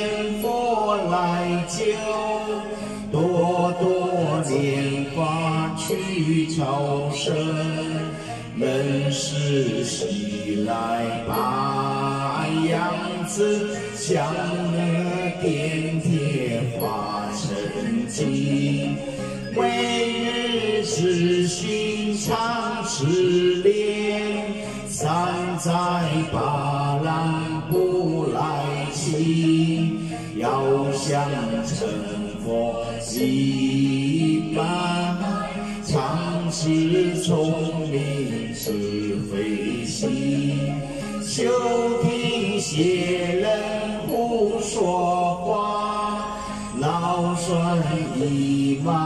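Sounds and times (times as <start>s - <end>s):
man chanting: 0.0s - 49.0s.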